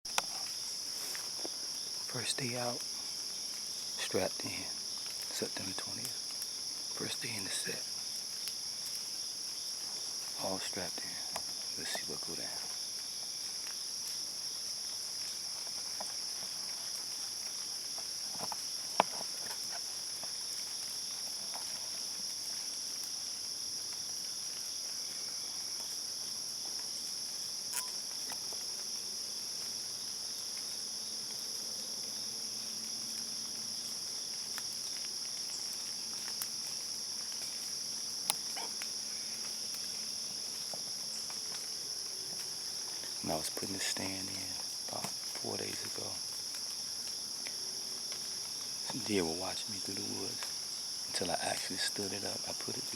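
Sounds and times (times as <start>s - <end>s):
crickets trilling: 0.1s - 52.9s.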